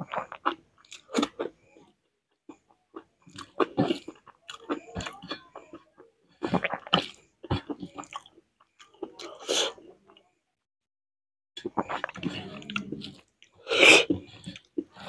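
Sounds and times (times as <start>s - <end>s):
chewing and wet mouth sounds: 0.0s - 10.3s, 11.6s - 15.0s.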